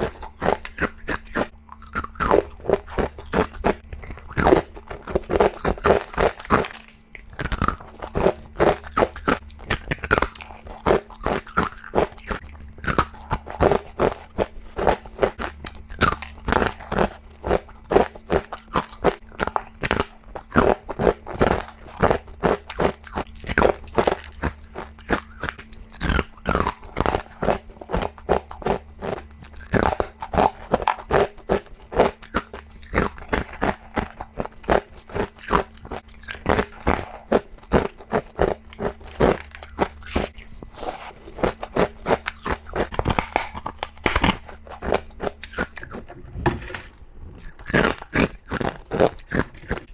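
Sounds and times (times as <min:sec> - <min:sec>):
faint low hum: 0:00.0 - 0:49.9
ice crunched between teeth: 0:00.0 - 0:49.9.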